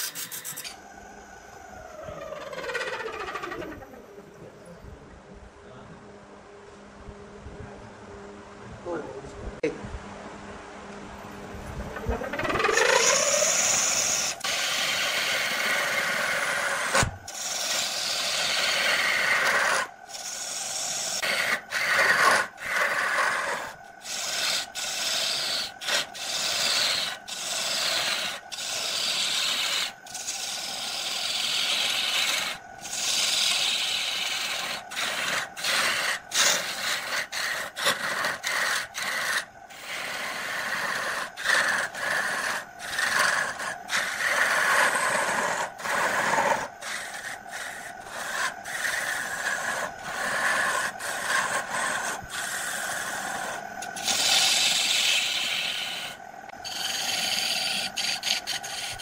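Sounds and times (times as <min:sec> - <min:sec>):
lathe tool scraping wood: 0:00.0 - 0:00.8, 0:01.7 - 0:04.0, 0:12.0 - 0:59.0
lathe motor humming: 0:00.0 - 0:04.6, 0:10.9 - 0:59.0.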